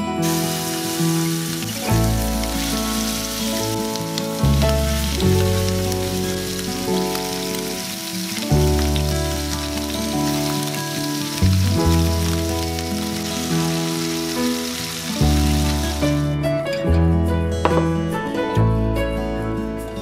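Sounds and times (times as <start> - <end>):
background music: 0.0 - 20.0
chicken sizzling in oil: 0.2 - 16.2.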